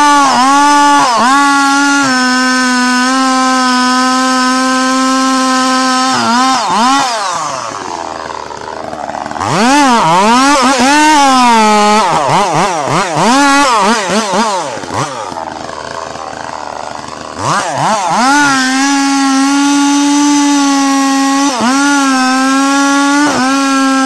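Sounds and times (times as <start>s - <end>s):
chainsaw cutting tree trunk: 0.0s - 24.0s.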